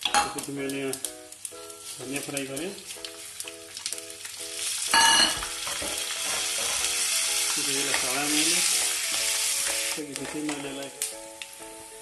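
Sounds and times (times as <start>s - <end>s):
seeds sizzling in hot oil: 0.0s - 12.0s.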